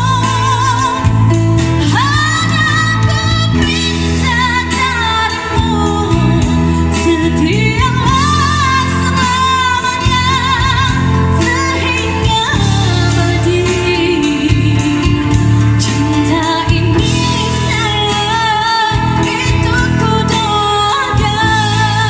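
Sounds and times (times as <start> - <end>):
band accompaniment: 0.0 - 22.0
woman singing pop ballad: 0.0 - 22.0.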